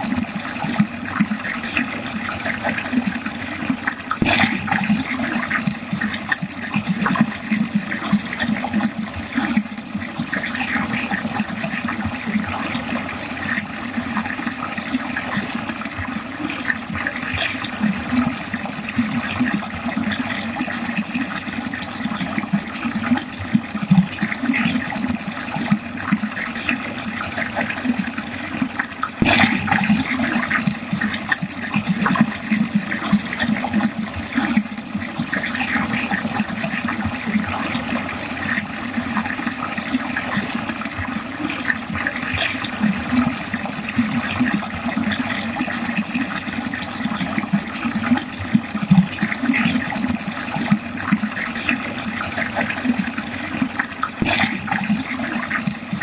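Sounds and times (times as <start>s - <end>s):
water flowing down a drain: 0.0s - 56.0s.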